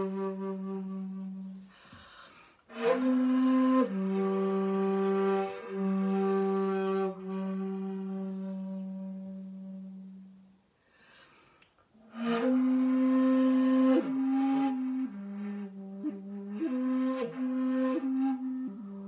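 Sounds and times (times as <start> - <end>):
bamboo flute held notes: 0.0 - 1.9, 2.7 - 10.5, 12.0 - 19.0.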